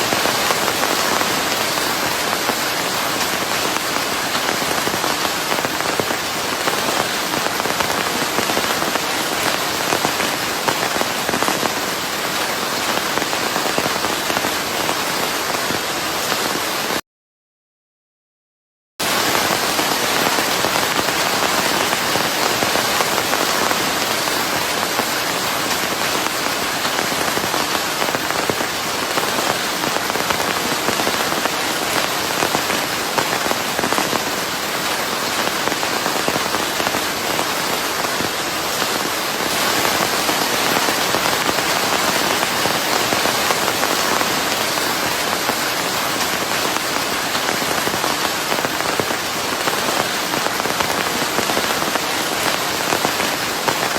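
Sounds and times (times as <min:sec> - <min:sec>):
steady rain: 0:00.0 - 0:17.0, 0:19.0 - 0:53.9.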